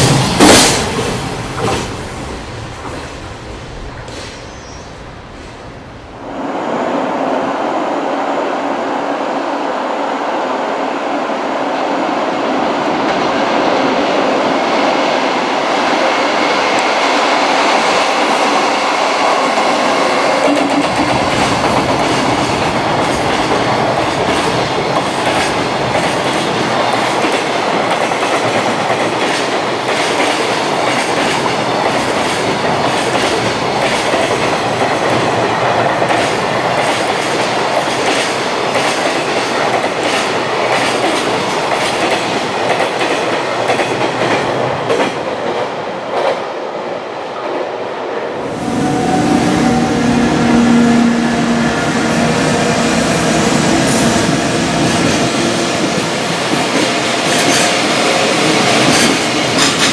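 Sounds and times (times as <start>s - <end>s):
electric locomotive passing: 0.0s - 59.9s.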